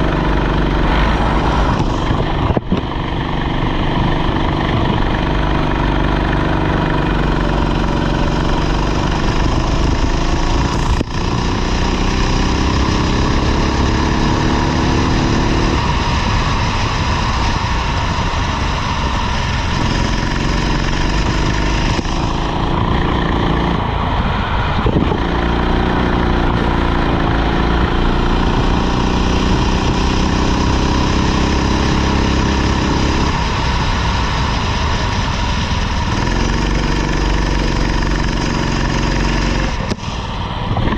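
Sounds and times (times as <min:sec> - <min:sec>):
kart engine revving: 0:00.0 - 0:40.9
steady rush of noise: 0:00.0 - 0:40.9.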